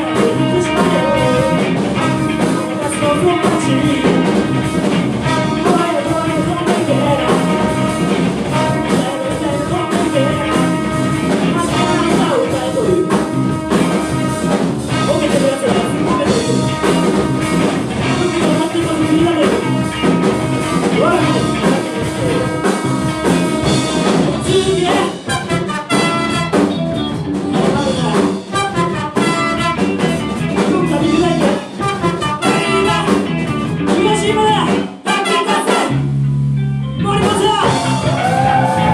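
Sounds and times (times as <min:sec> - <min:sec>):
live funk band playing: 0:00.0 - 0:38.9.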